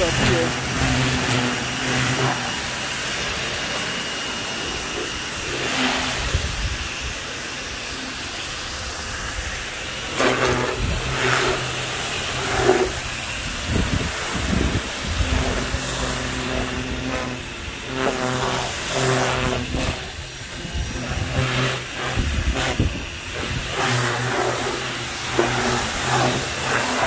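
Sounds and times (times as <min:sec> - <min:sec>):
pressure washer motor humming: 0:00.0 - 0:27.0
water spray hissing on car: 0:00.0 - 0:27.0.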